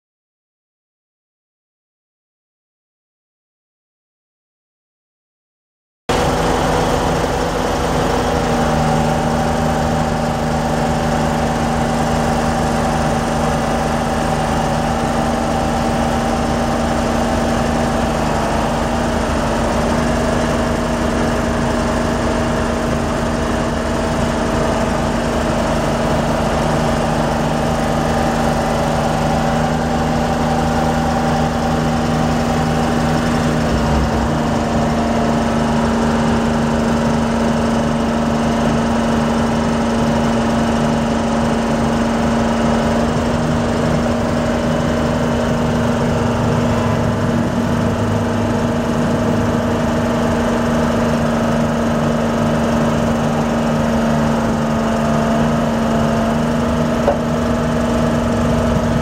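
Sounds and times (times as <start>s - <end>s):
diesel engine running steadily: 6.1s - 59.0s.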